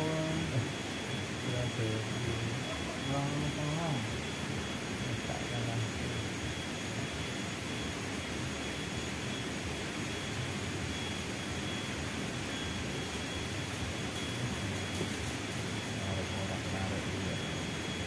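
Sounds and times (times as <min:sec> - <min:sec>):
continuous outdoor rush: 0:00.0 - 0:18.0.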